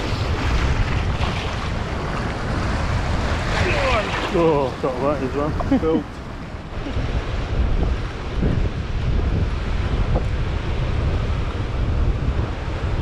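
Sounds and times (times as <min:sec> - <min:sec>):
surf washing in shallows: 0:00.0 - 0:13.0
wind buffeting microphone: 0:00.0 - 0:13.0.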